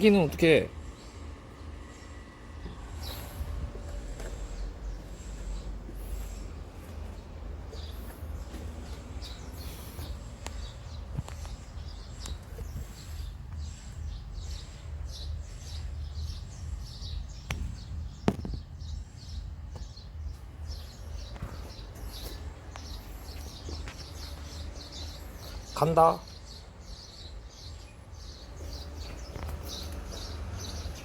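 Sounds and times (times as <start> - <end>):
small birds chirping: 0.0 - 31.0
steady low rumble: 0.7 - 25.7.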